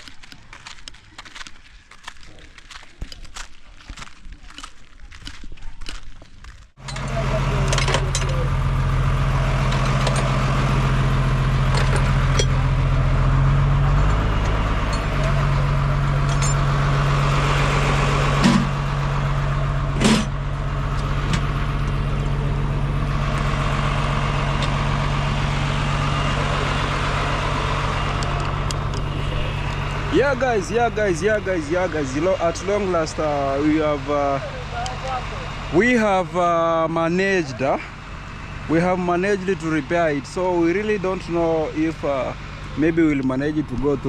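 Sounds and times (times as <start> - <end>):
car engine running: 6.7 - 44.0.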